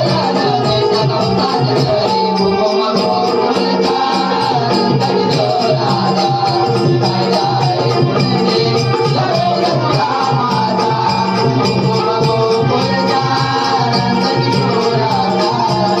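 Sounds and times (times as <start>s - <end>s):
jingling rattling percussion: 0.0s - 16.0s
person singing devotional song: 0.0s - 16.0s.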